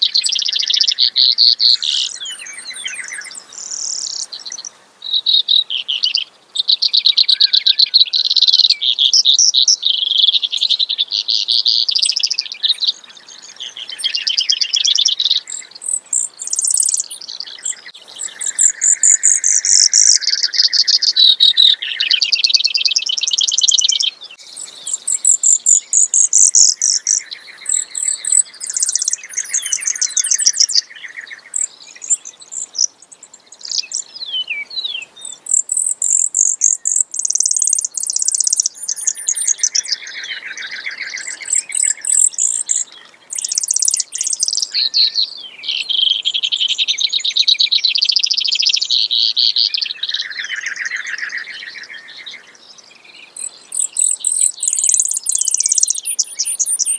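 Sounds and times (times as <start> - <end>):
sparrow singing rapid trills: 0.0 - 56.9.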